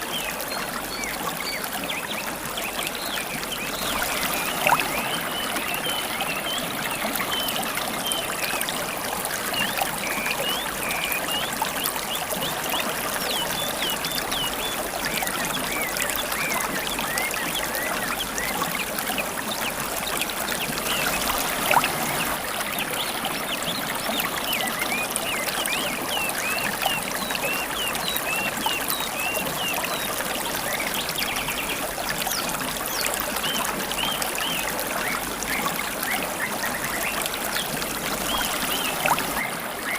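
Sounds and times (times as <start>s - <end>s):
river water babbling: 0.0s - 39.9s
wild birds chirping: 0.0s - 39.9s.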